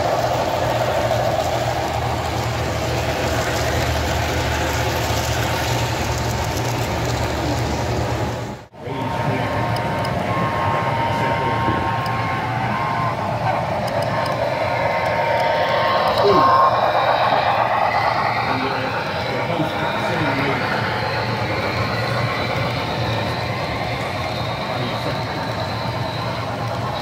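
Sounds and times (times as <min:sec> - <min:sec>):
low hum: 0:00.0 - 0:27.0
model train wheels rolling on rail: 0:00.0 - 0:27.0.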